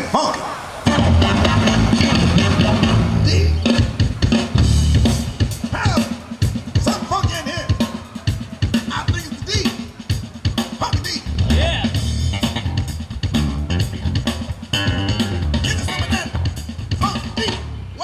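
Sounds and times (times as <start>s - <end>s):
dance music over loudspeakers: 0.0s - 18.0s.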